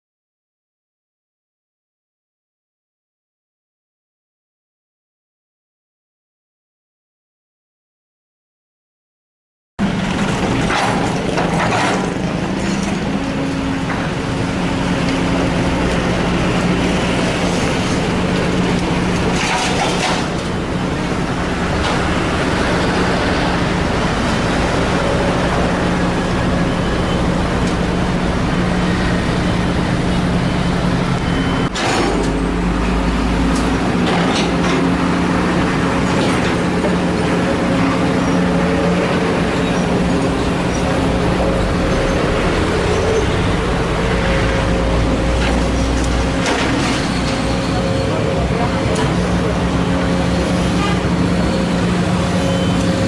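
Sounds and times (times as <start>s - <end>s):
diesel engine drone: 9.8s - 53.0s.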